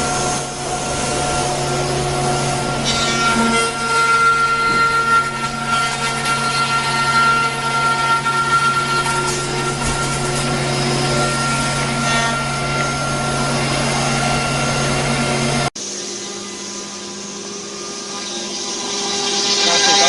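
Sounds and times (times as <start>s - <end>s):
cnc router machinery droning: 0.0s - 20.0s.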